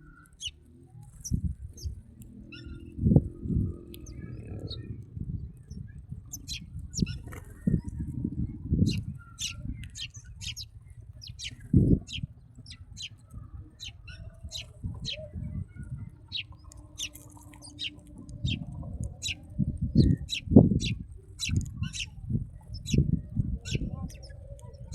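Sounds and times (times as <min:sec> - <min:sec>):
low rumble: 0:00.0 - 0:24.9
small birds chirping: 0:00.0 - 0:24.9.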